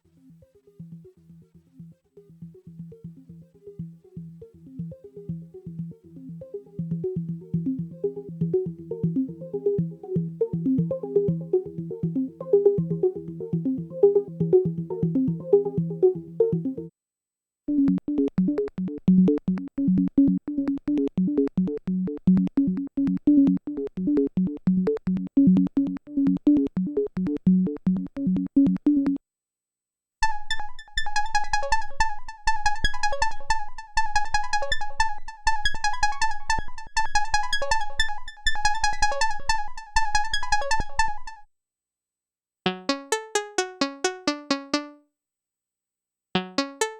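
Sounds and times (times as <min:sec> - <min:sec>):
synthesizer repeated notes: 0:00.4 - 0:16.9, 0:17.7 - 0:29.2, 0:30.2 - 0:41.4, 0:42.7 - 0:45.0, 0:46.4 - 0:46.9.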